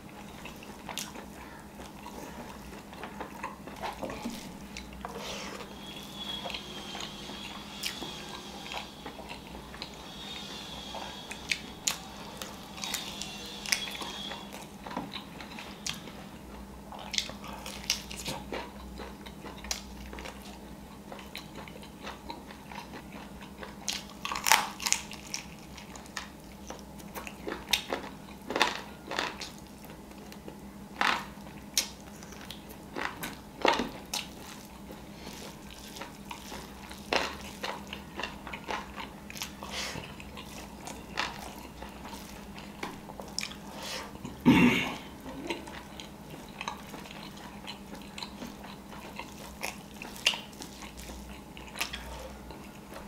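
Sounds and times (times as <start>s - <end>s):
man chewing and lip-smacking: 0.0s - 44.4s, 45.0s - 53.0s
faint low hum: 0.0s - 53.0s.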